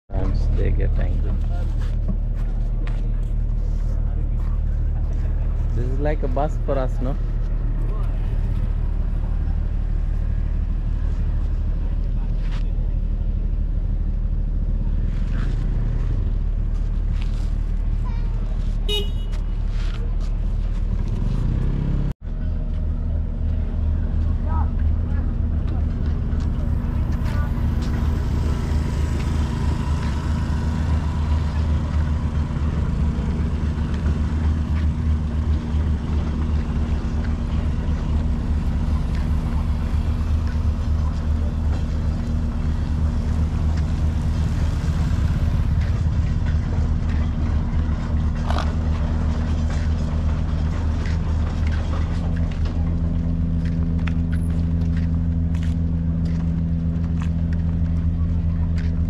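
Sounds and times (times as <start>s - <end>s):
engine droning: 0.1s - 59.0s.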